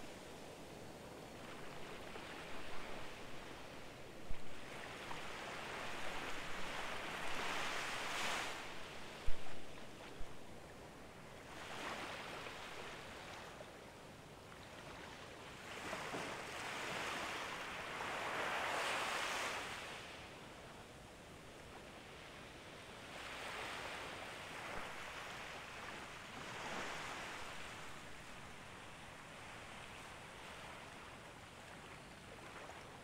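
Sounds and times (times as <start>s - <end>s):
gentle waves washing on beach: 0.0s - 33.0s.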